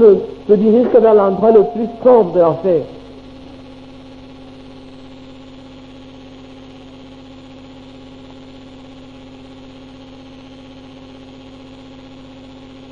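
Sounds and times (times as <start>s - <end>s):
steady electrical hum: 0.0s - 12.9s.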